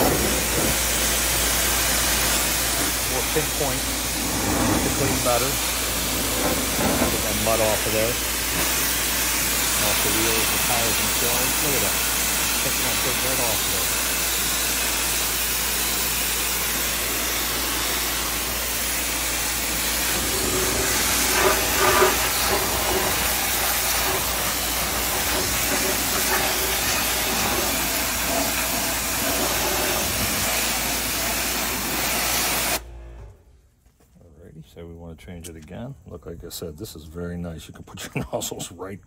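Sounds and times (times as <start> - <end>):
pressure washer spray hissing: 0.0 - 32.8.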